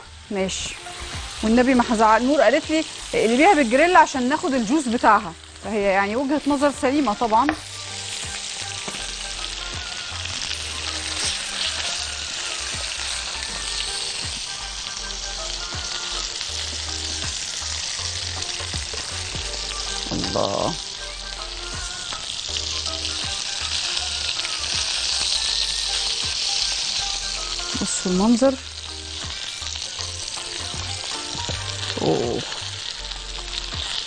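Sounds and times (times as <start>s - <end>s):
meat sizzling in a grill pan: 0.0s - 34.0s.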